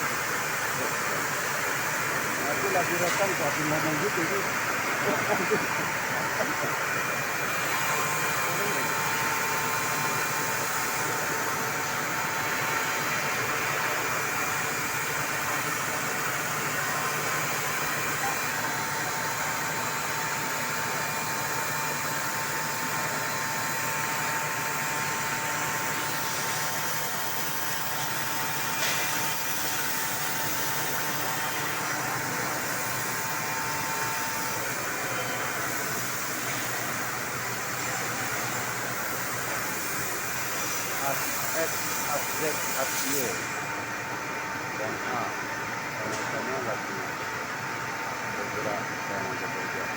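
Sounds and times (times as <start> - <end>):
cnc machine whirring: 0.0 - 49.9.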